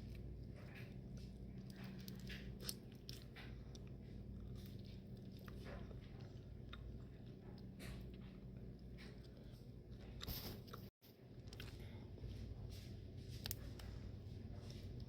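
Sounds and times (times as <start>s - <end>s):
chewing: 0.0s - 12.6s
steady low hum: 0.0s - 15.0s.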